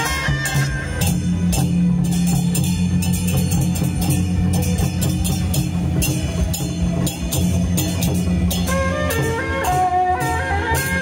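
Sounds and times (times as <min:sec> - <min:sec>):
drum and cymbal strikes: 0:00.0 - 0:11.0.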